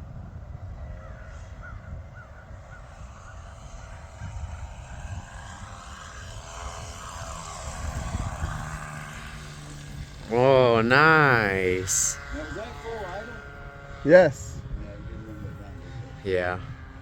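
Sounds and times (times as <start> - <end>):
model airplane engine idling: 0.0 - 17.0
wind rumbling on microphone: 0.0 - 17.0.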